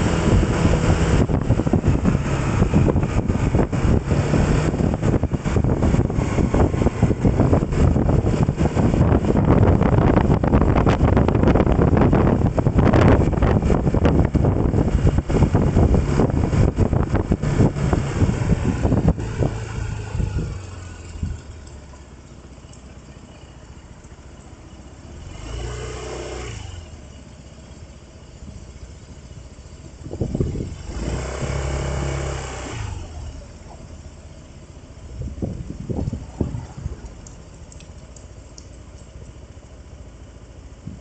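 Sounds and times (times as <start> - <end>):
vehicle engine: 0.0 - 41.0
vehicles passing by: 0.0 - 41.0
wind and road noise: 0.0 - 41.0.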